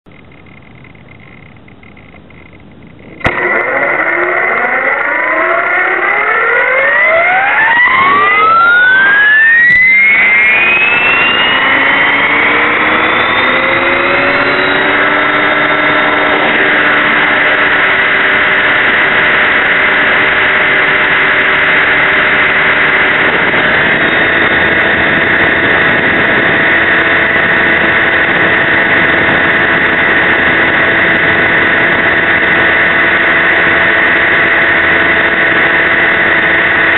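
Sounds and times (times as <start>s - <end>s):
rc helicopter rotor whine: 0.1s - 36.9s.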